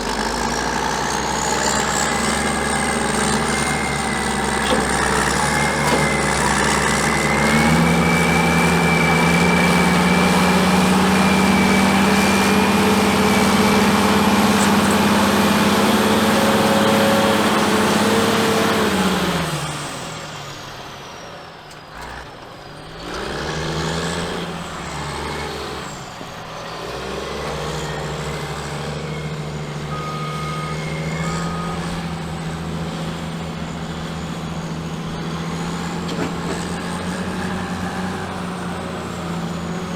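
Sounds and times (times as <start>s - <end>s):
diesel engines running hard: 0.0s - 39.9s.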